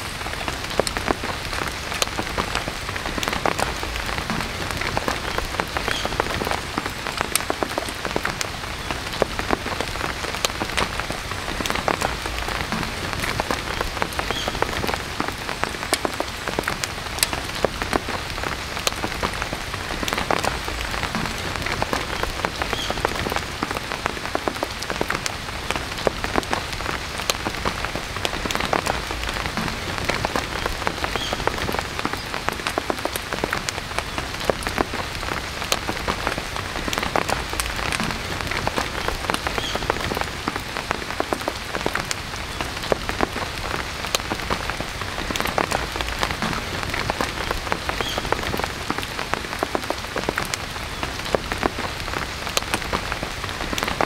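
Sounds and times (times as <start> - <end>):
heavy rain hissing: 0.0 - 54.0
rain drop ticks: 0.0 - 54.0.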